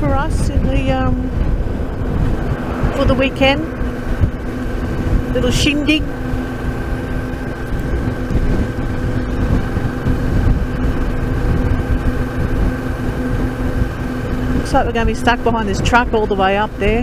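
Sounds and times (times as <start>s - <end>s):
motorcycle engine drone: 0.0s - 17.0s
wind and road noise: 0.0s - 17.0s.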